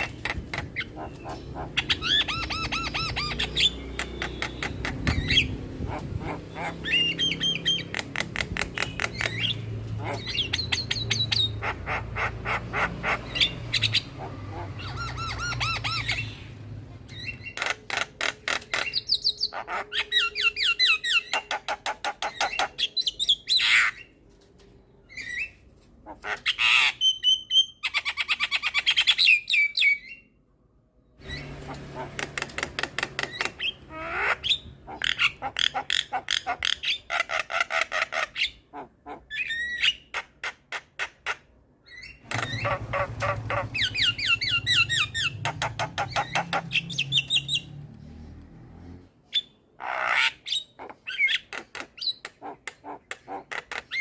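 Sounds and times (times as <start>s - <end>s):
bird song with harsh chattering: 0.0s - 24.2s, 24.9s - 30.4s, 31.1s - 47.8s, 49.3s - 54.0s.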